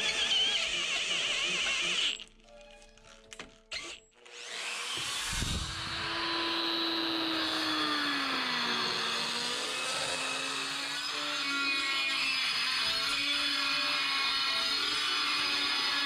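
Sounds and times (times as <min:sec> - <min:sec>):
rotary power tool grinding metal: 0:00.0 - 0:02.2, 0:03.7 - 0:16.0.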